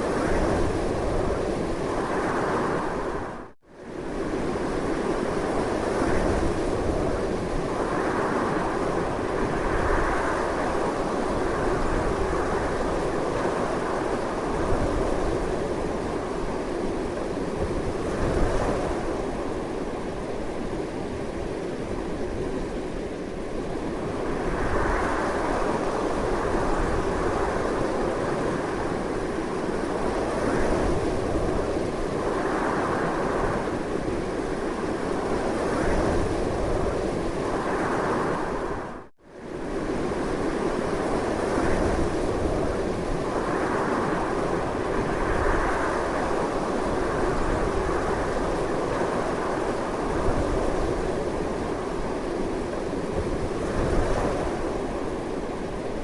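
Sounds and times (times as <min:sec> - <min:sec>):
strong steady wind blowing: 0:00.0 - 0:56.0.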